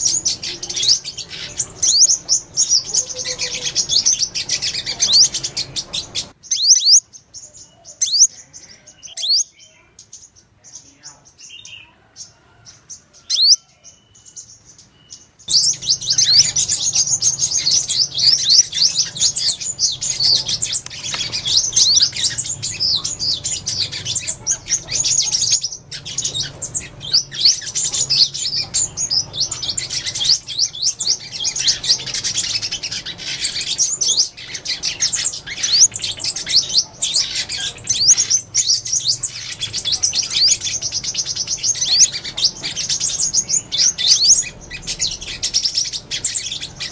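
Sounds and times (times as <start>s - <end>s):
sunbird singing: 0.0s - 46.9s.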